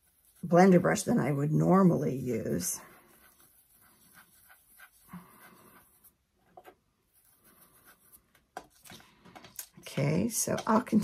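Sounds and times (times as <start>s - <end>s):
brush rubbing on paper: 0.0s - 9.0s.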